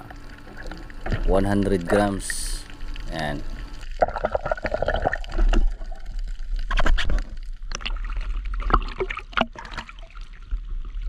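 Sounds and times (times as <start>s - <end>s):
water splashing and gurgling: 0.0s - 11.0s.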